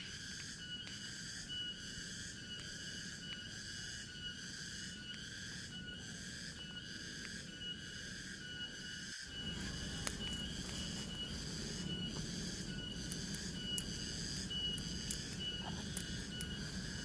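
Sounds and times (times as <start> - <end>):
insects buzzing and trilling: 0.0 - 17.0.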